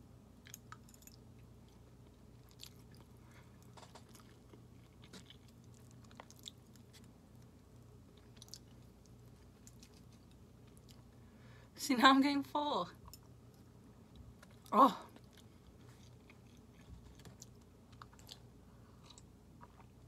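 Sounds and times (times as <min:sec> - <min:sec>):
low steady hum: 0:00.0 - 0:20.0
chewing noodles: 0:00.4 - 0:11.2, 0:13.1 - 0:20.0.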